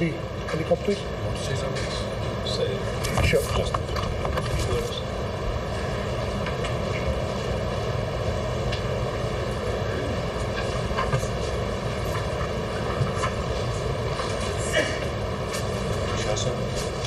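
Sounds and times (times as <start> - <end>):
mechanical drone and hiss: 0.0 - 17.0.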